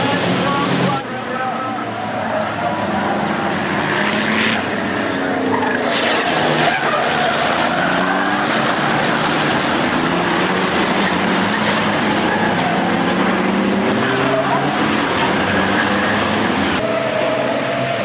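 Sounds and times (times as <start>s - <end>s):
truck engines accelerating: 0.0s - 18.0s.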